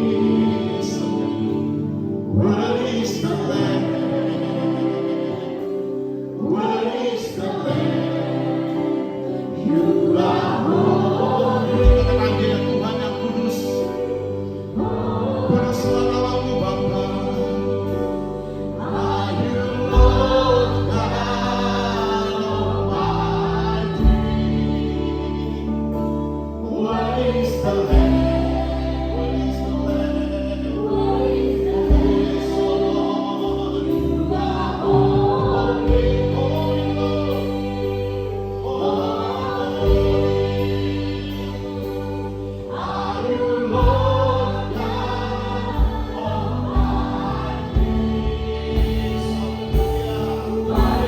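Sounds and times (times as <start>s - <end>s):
choir singing gospel: 0.0s - 51.0s
sustained keyboard chords: 0.0s - 51.0s.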